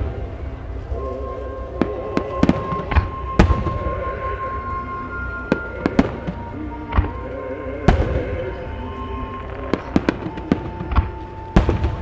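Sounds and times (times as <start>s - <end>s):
fireworks bursting with sharp bangs: 0.0s - 7.3s, 7.9s - 12.0s
background music: 0.0s - 12.0s.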